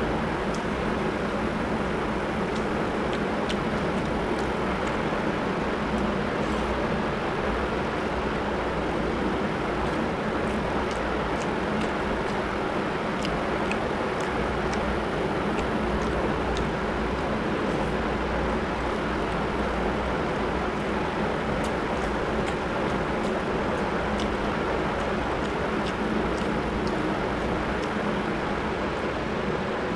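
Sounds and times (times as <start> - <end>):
eating clicks and smacks: 0.4 - 1.1, 2.4 - 6.7, 7.9 - 29.8.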